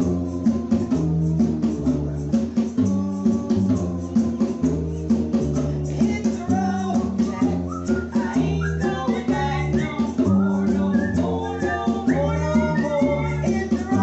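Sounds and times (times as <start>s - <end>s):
live band playing: 0.0s - 14.0s
person singing: 0.0s - 14.0s.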